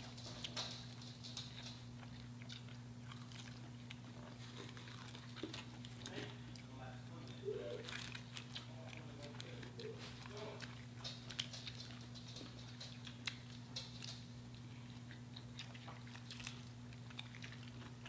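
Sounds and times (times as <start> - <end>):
chewing crispy fried chicken: 0.0 - 18.0
steady low hum: 0.0 - 18.0.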